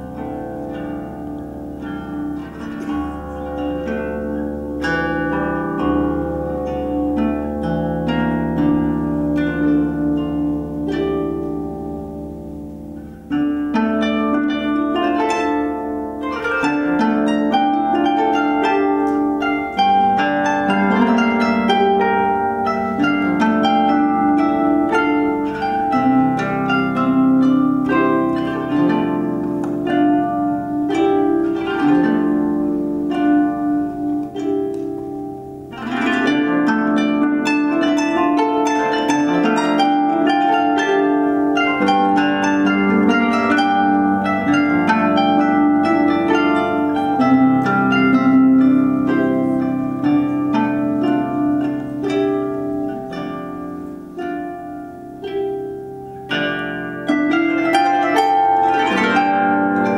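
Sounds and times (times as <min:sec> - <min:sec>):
harp playing: 0:00.0 - 0:59.9.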